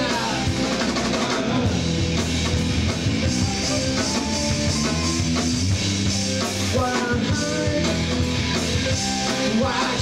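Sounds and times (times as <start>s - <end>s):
drum kit: 0.0s - 10.0s
electric guitars: 0.0s - 10.0s.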